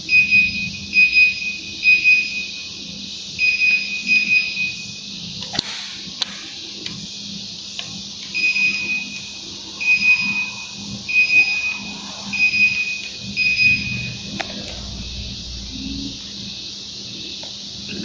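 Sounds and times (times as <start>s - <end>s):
steady airy hiss: 0.0s - 18.0s.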